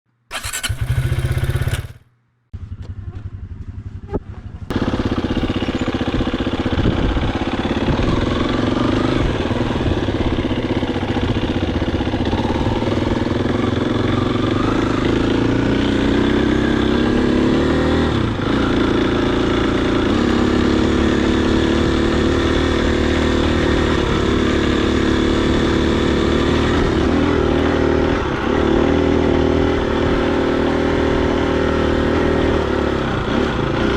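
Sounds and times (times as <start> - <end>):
dirt bike engine revving: 0.3 - 2.0, 4.7 - 33.9.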